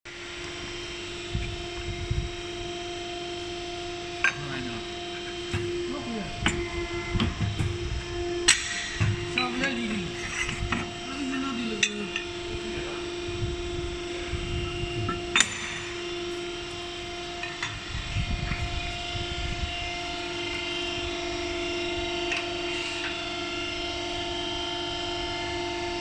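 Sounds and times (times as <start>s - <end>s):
hydraulic machine humming: 0.1s - 26.0s.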